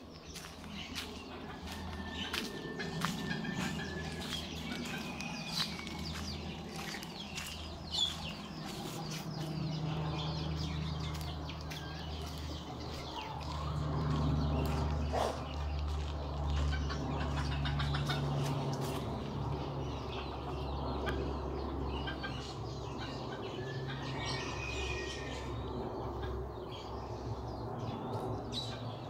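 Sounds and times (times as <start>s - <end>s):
steady low hum: 0.0s - 23.9s
chickens clucking: 0.3s - 24.5s.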